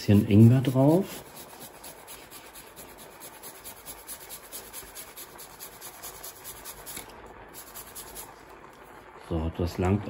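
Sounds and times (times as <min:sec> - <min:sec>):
ginger grated on metal grater: 0:00.1 - 0:08.4.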